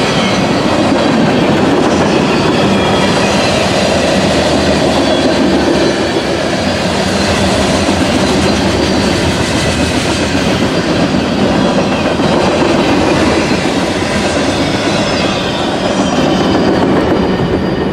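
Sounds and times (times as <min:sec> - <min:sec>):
freight train rumbling past: 0:00.0 - 0:17.9.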